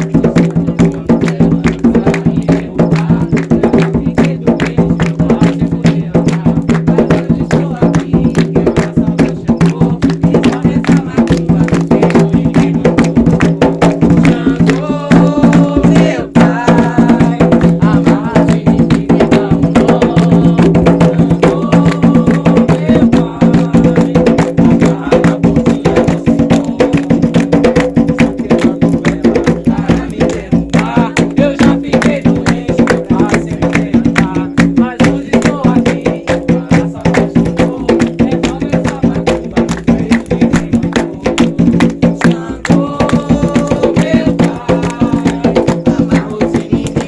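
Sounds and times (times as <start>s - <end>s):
hand drums beating: 0.0s - 47.0s
sharp wood-block clack: 0.0s - 47.0s.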